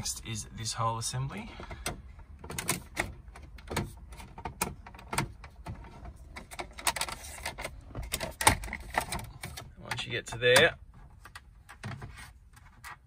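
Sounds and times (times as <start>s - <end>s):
plastic trim clicking and rattling: 1.6s - 13.0s.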